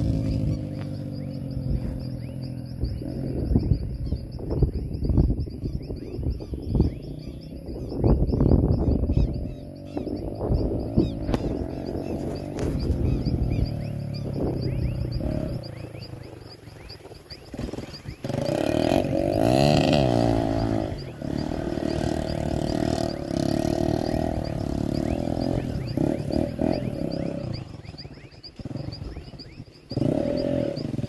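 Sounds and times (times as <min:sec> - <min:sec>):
dirt bike engine revving: 0:00.0 - 0:04.6, 0:06.2 - 0:31.0.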